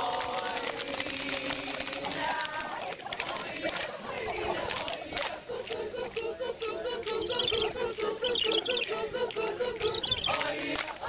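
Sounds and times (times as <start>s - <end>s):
voices chanting rhythmically: 0.0s - 11.0s.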